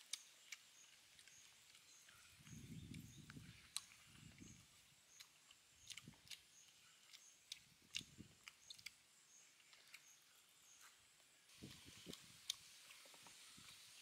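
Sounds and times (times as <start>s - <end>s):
eating crunches and smacks: 0.0s - 10.4s, 11.6s - 13.9s.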